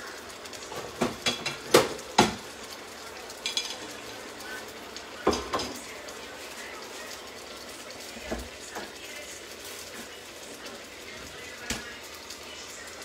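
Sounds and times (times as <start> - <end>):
frying pan sizzling: 0.0 - 13.0.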